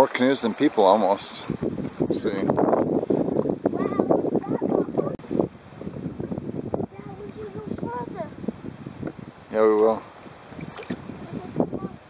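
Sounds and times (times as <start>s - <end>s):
wind rumbling on microphone: 0.7s - 12.0s.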